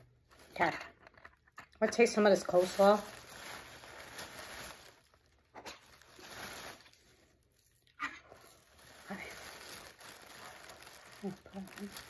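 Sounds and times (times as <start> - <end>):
plastic bag rustling: 1.9 - 12.0.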